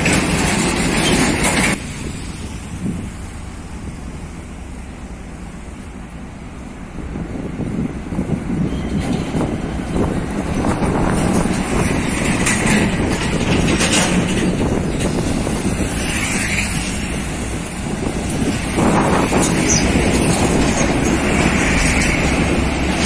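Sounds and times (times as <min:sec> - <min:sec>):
heavy diesel trucks passing: 0:00.0 - 0:23.0
road traffic: 0:00.0 - 0:23.0
tyres on road: 0:00.0 - 0:23.0.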